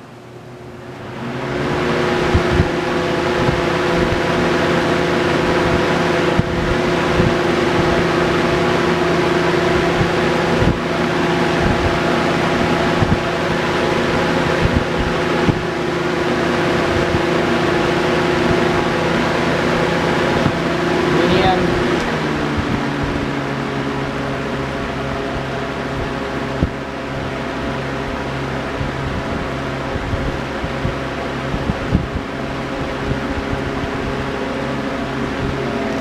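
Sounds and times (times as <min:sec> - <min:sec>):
box fan motor humming: 0:00.0 - 0:36.0
rush of moving air: 0:00.8 - 0:36.0.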